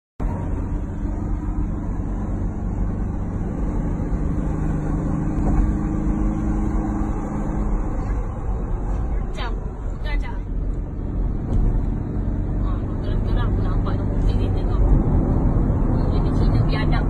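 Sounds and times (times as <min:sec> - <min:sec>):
car engine drone: 0:00.2 - 0:17.0.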